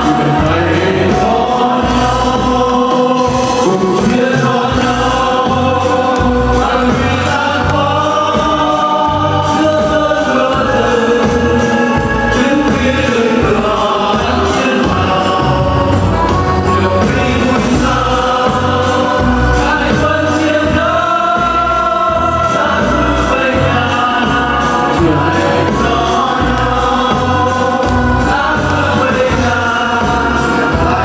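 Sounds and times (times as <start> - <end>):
choral singing: 0.0 - 31.0
steady bass beat: 0.0 - 31.0.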